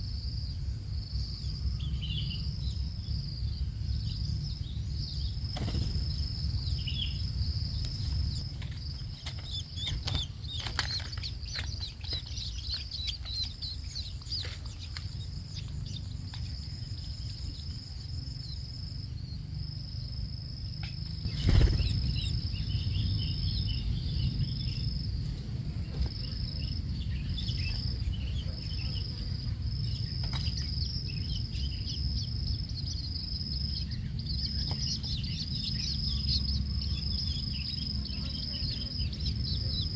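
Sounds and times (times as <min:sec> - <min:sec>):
bird chicks chirping: 0:00.0 - 0:39.9
high insect whine: 0:00.0 - 0:39.9.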